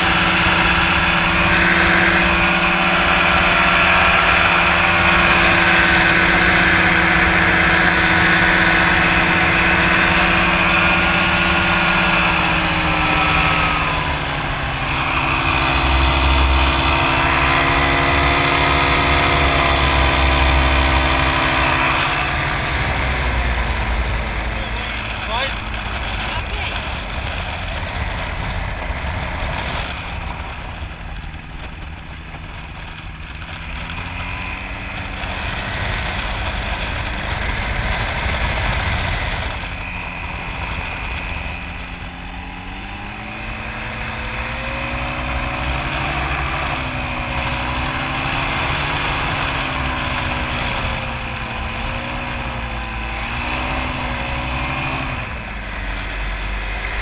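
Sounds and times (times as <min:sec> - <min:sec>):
light aircraft engine rising and falling: 0:00.0 - 0:57.0.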